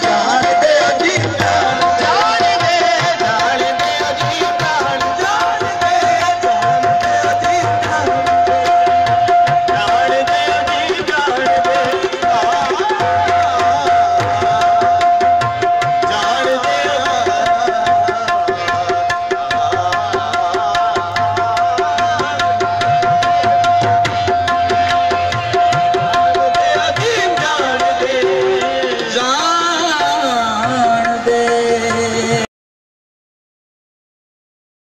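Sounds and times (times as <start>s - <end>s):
fast tabla beat: 0.0s - 32.5s.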